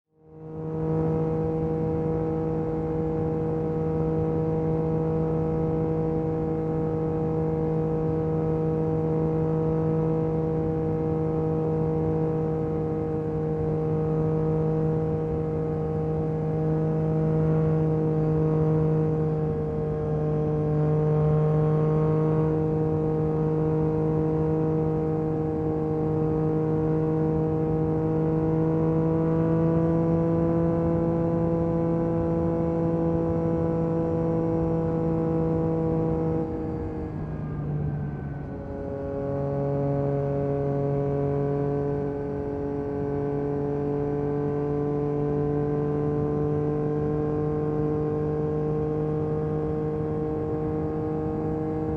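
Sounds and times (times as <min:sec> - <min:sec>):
motorcycle engine droning: 0:00.1 - 0:51.9.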